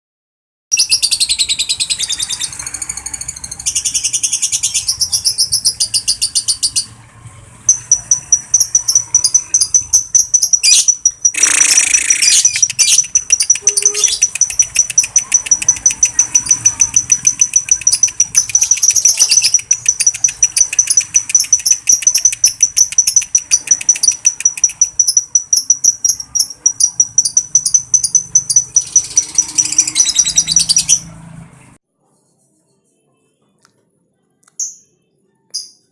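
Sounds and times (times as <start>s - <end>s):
bird chattering trill: 0.7s - 7.0s, 7.7s - 31.2s.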